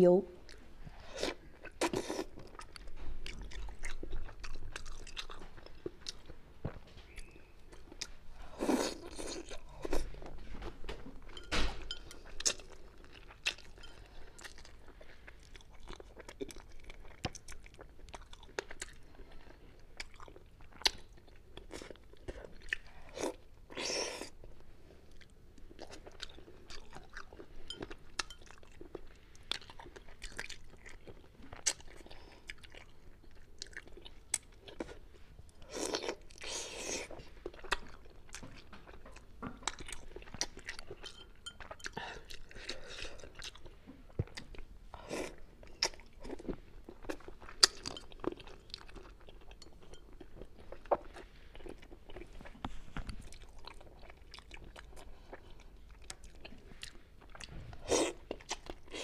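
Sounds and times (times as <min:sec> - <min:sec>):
person chewing: 0:00.4 - 0:06.4, 0:07.1 - 0:24.4, 0:25.1 - 0:59.0.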